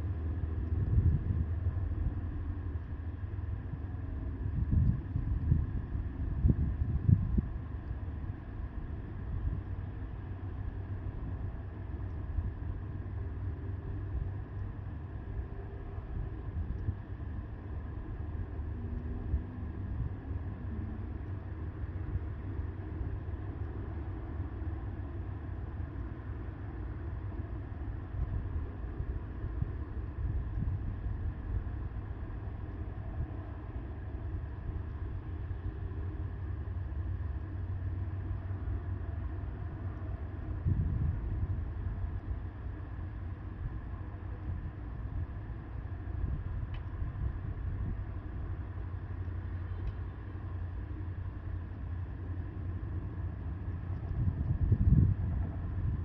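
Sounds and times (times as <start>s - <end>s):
wind buffeting microphone: 0.0s - 23.5s, 27.4s - 36.0s, 39.2s - 48.9s, 52.3s - 56.0s.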